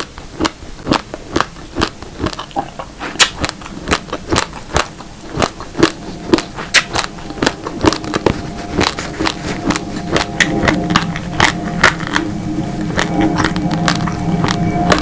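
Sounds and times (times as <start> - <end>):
crunching raw rice: 0.0 - 15.0.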